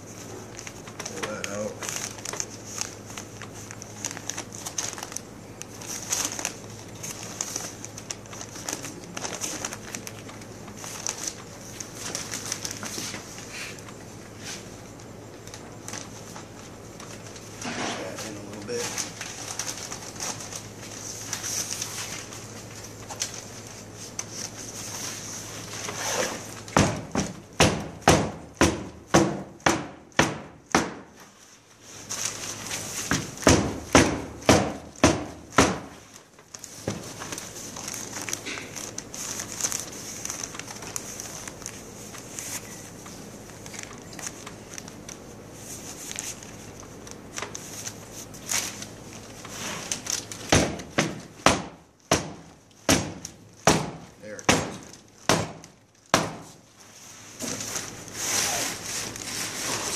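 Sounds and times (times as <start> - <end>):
newspaper rustling: 0.0 - 29.6, 30.7 - 59.9.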